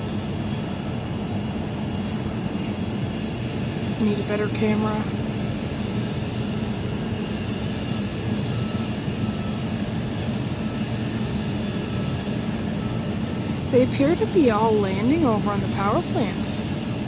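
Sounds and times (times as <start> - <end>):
power plant mechanical drone: 0.0 - 17.0.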